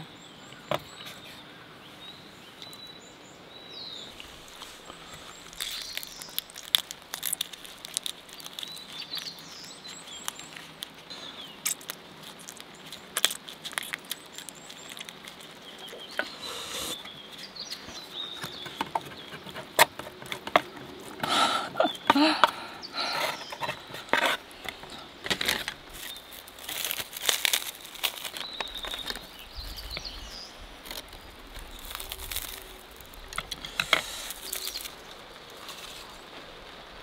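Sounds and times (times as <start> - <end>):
birds chirping: 0.0 - 6.8, 8.3 - 13.2, 13.9 - 35.4.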